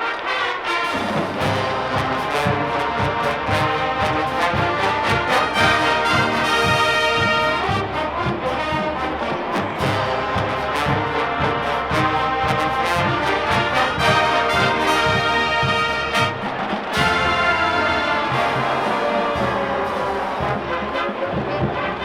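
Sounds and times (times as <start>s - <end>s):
brass playing: 0.0s - 22.0s
steady drum beat: 0.9s - 22.0s.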